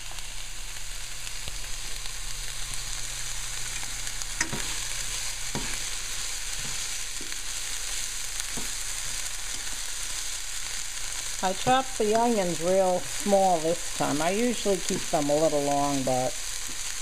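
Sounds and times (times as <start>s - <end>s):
onions sizzling in a frying pan: 0.0s - 17.0s.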